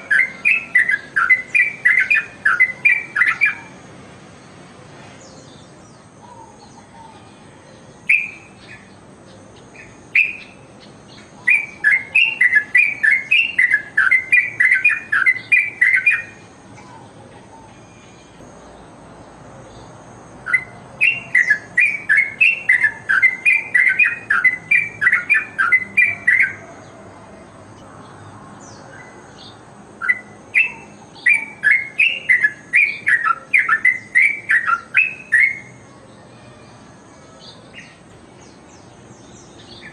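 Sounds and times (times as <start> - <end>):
bird chattering song: 0.0 - 3.8, 5.2 - 18.9, 19.7 - 26.9, 28.6 - 36.0, 37.4 - 39.9.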